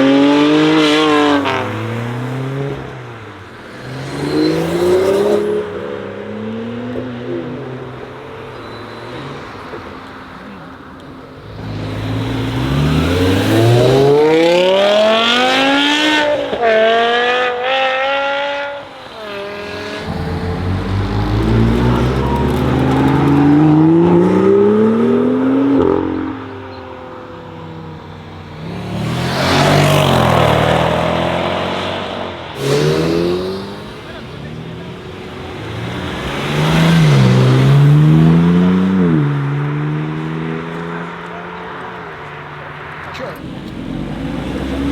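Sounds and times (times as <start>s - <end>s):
car revving through gears: 0.0s - 44.9s
cars accelerating hard: 0.0s - 44.9s
loud car passing: 0.0s - 44.9s.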